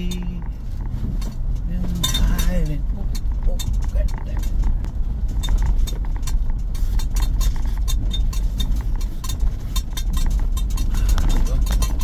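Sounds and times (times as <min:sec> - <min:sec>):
vehicle body clicks and rattles: 0:00.0 - 0:12.0
vehicle engine and road rumble: 0:00.0 - 0:12.0.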